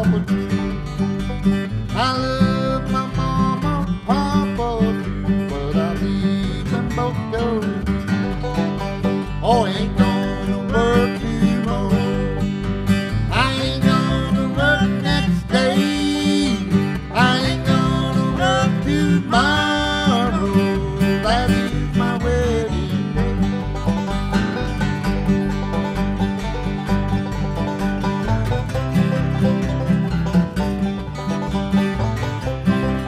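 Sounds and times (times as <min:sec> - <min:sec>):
string band playing upbeat tune: 0:00.0 - 0:33.0.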